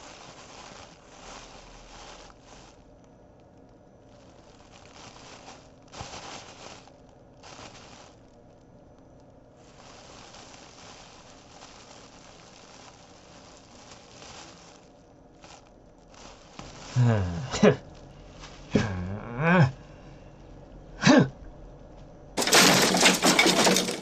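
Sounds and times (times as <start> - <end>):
rustling crinkling: 0.0 - 20.9, 21.7 - 24.0.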